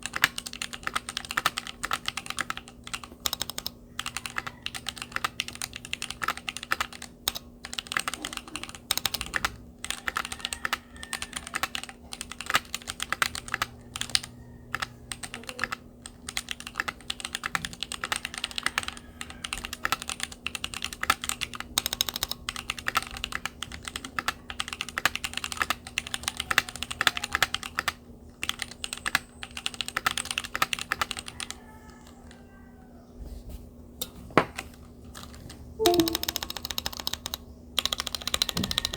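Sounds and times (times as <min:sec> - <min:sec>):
mechanical keyboard typing: 0:00.0 - 0:32.2, 0:35.2 - 0:38.9.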